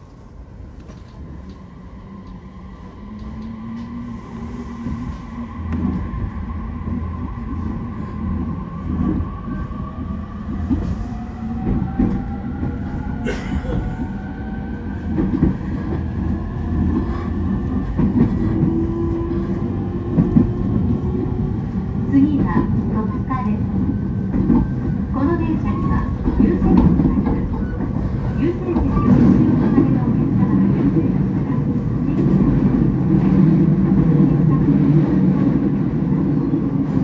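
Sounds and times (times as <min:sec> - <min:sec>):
train rumble: 0:00.0 - 0:37.0.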